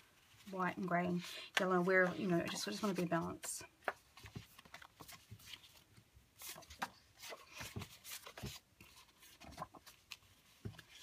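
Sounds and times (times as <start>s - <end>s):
paper cards rustling: 0.0s - 11.0s.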